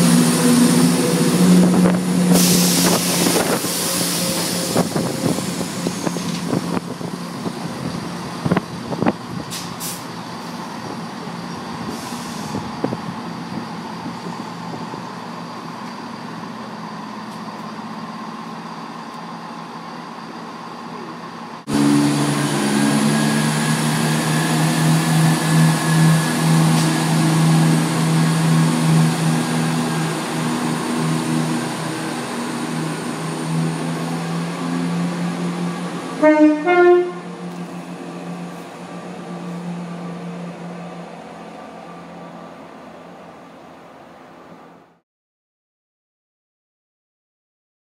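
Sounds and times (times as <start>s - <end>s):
diesel train engines pulsing hum: 0.0s - 45.0s
train rumble: 0.0s - 45.0s.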